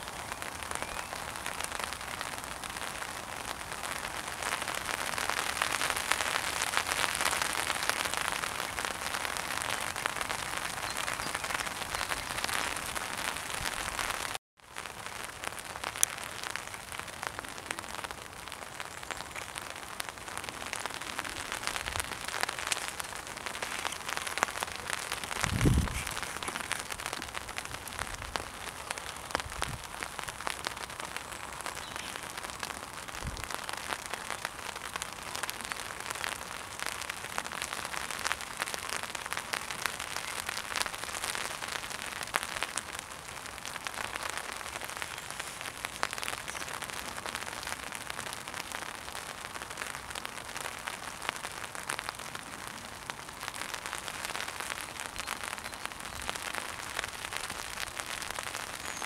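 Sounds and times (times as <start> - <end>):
raindrops tapping on umbrella: 0.0 - 59.0
steady rain falling: 0.0 - 59.0.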